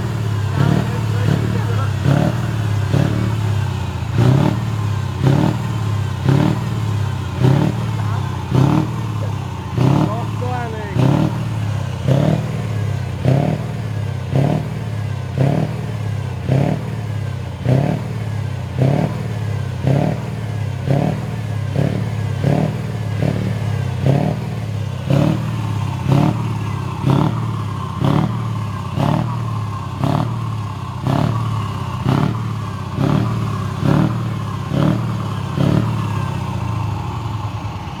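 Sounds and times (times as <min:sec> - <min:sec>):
diesel truck engine revving: 0:00.0 - 0:38.0.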